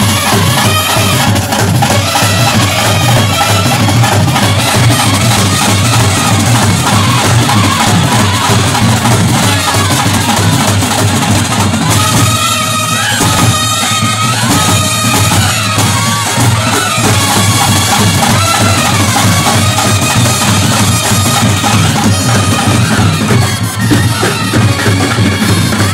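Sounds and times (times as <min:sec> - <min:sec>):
brass melody of held notes: 0:00.0 - 0:25.9
snare drumming: 0:00.0 - 0:25.9.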